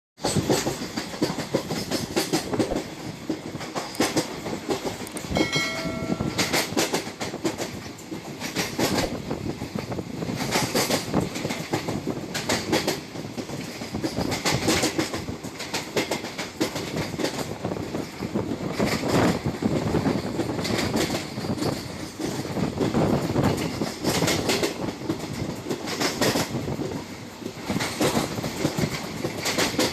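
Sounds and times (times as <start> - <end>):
train rumble: 0.2 - 29.9
train wheels clattering over joints: 0.2 - 29.9
wind: 0.2 - 29.9.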